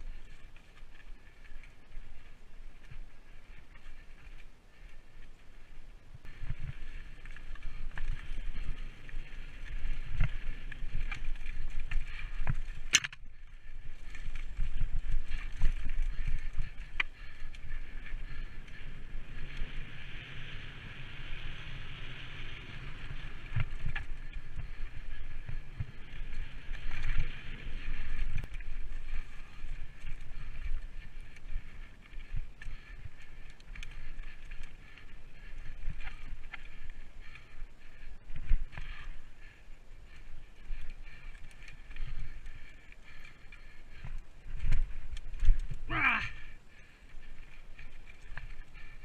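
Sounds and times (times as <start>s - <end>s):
bike tyres crunching on dirt: 0.0s - 49.0s
bike chain and frame rattling: 6.3s - 49.0s.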